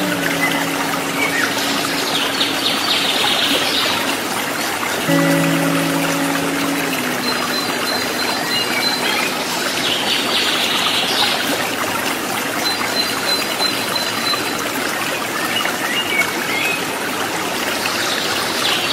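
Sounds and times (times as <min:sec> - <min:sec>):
waterfall splashing over rocks: 0:00.0 - 0:18.9.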